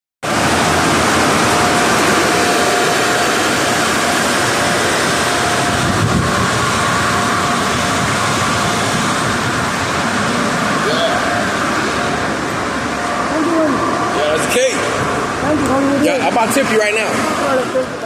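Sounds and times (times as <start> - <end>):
car wash equipment rushing: 0.2 - 18.0.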